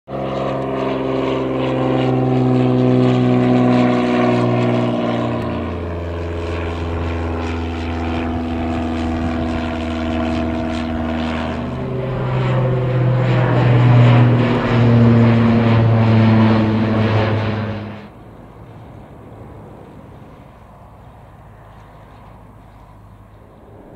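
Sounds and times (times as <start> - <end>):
propeller aircraft droning overhead: 0.1 - 23.9.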